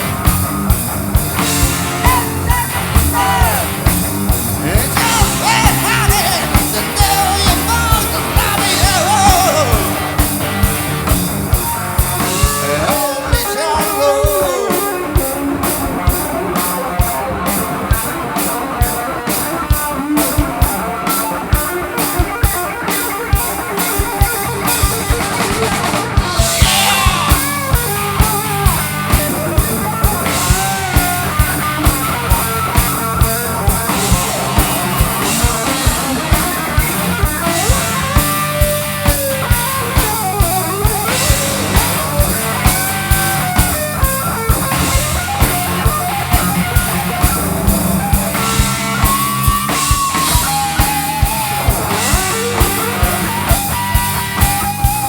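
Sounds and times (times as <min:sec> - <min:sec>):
electric guitar lead bending notes: 0:00.0 - 0:55.0
live rock band playing: 0:00.0 - 0:55.0.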